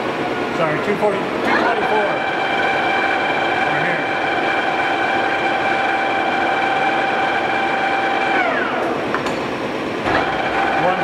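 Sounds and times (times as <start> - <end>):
lathe gear whine: 0.0 - 11.0.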